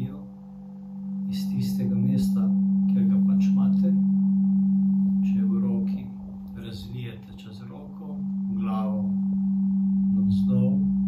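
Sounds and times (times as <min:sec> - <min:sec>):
singing bowl tone: 0:00.0 - 0:11.0.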